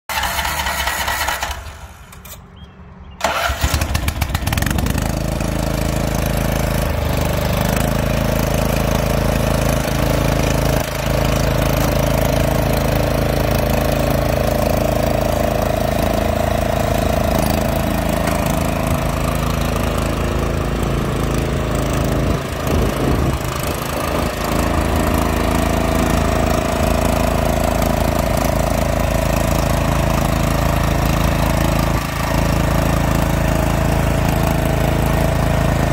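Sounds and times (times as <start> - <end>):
lawn mower engine cranking: 0.1 - 35.9
lawn mower engine running: 0.1 - 35.9.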